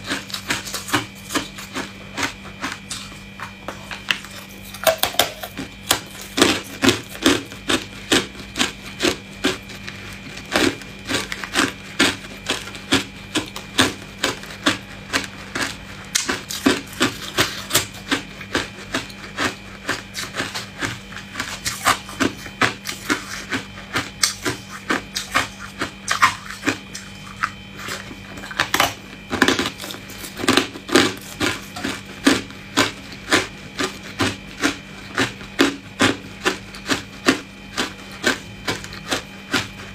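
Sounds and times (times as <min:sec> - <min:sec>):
ice crunched and chewed: 0:00.0 - 0:39.9.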